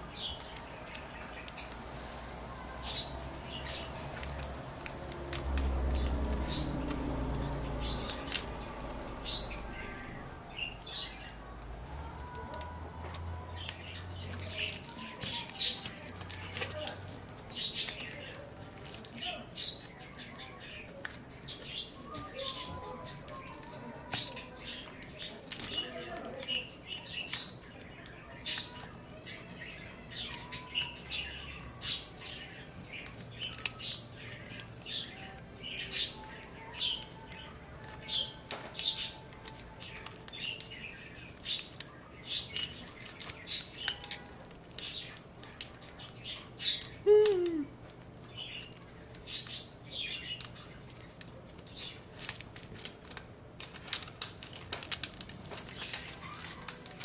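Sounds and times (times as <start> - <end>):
plastic film clicking and crackling: 0.0 - 57.0.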